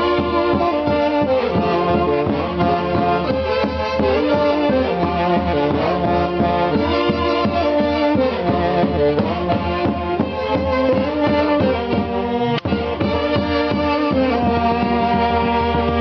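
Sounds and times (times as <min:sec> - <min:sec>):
horns playing melody: 0:00.0 - 0:16.0
orchestra band music: 0:00.0 - 0:16.0.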